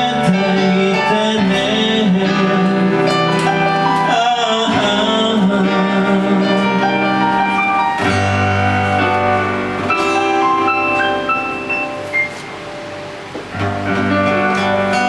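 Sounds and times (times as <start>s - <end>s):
guitar chords: 0.0s - 15.0s
keyboard chords: 0.0s - 15.0s.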